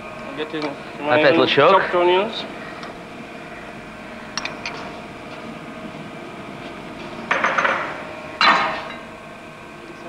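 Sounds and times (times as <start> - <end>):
kitchen equipment humming: 0.0 - 10.0.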